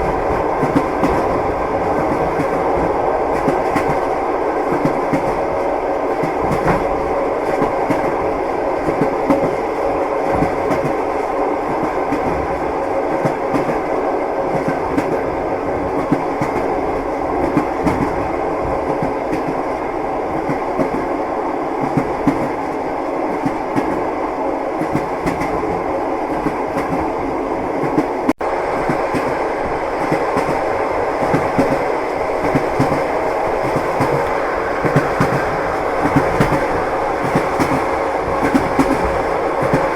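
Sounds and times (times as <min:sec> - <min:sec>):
train wheels clickety-clack: 0:00.0 - 0:29.4, 0:30.0 - 0:39.9.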